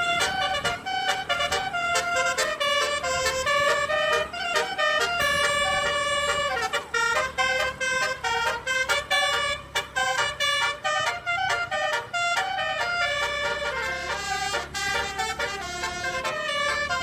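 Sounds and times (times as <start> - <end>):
multi-tone vehicle horn melody: 0.0 - 17.0.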